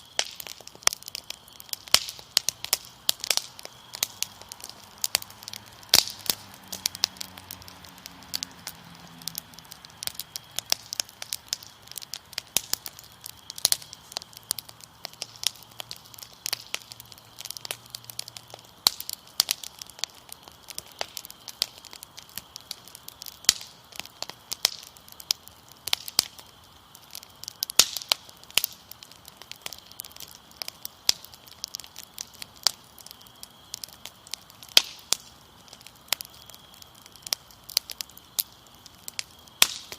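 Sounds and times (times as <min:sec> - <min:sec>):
crickets trilling: 0:00.0 - 0:39.9
fire crackling: 0:00.0 - 0:39.9.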